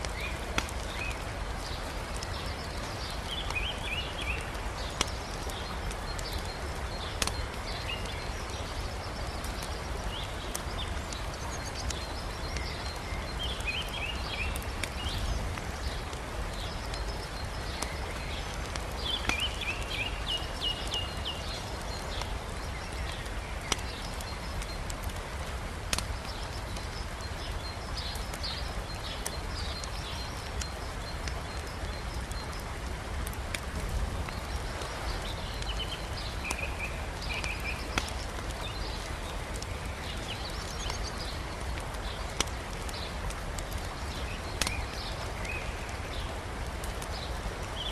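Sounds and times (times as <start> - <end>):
river rushing: 0.0 - 47.9
small birds chirping: 0.0 - 47.9
wood fire crackling and popping: 0.0 - 47.9.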